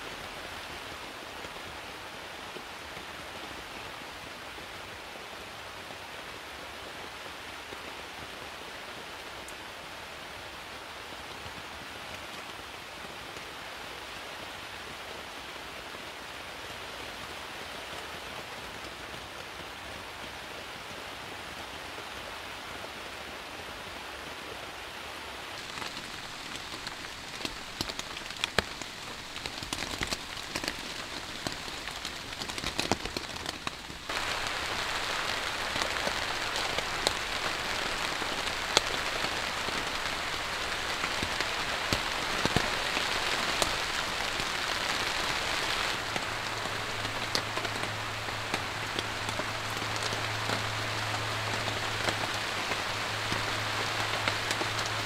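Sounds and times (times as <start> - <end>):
raindrops tapping on a tarp: 0.0 - 22.7, 25.5 - 55.0
heavy rain on a tarp: 0.0 - 55.0.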